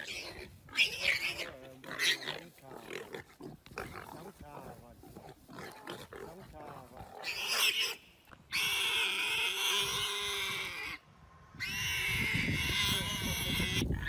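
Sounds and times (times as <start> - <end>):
warthog squealing: 0.0 - 11.0, 11.6 - 14.0.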